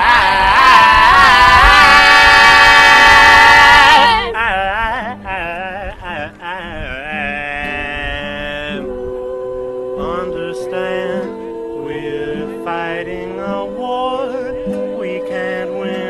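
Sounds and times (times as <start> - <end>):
voices singing a chant: 0.0 - 4.7, 7.7 - 16.0.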